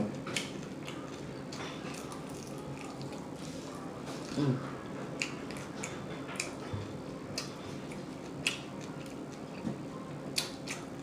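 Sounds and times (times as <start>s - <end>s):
person chewing and lip smacking: 0.2s - 11.0s.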